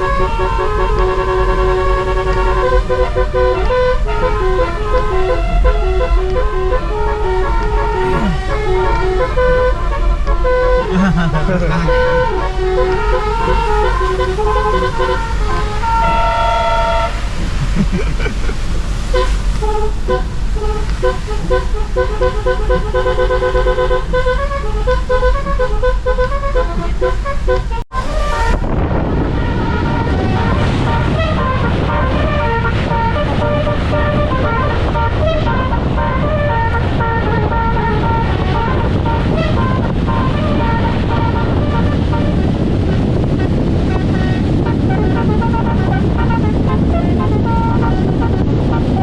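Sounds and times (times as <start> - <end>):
truck musical horn tune: 0.0 - 17.7, 18.4 - 49.0
vehicle noise: 0.0 - 49.0.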